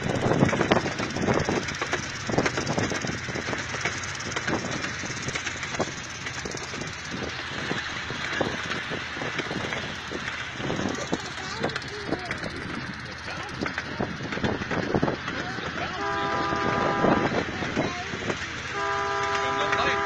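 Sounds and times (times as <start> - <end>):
miniature train rumbling on track: 0.0 - 20.0
wheels clacking and rattling: 0.0 - 20.0.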